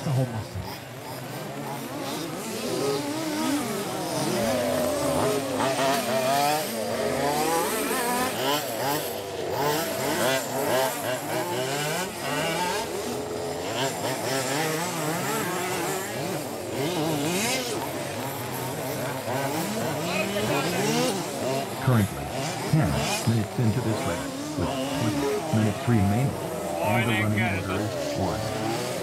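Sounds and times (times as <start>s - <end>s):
small engines revving: 0.0s - 29.0s.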